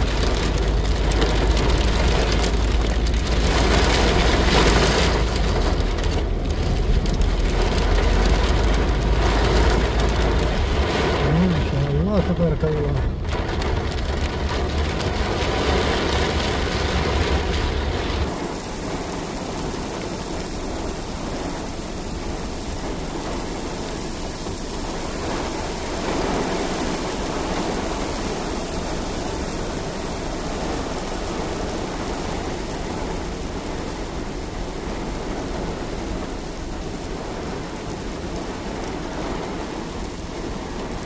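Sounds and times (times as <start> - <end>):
rain falling steadily: 0.0 - 41.0.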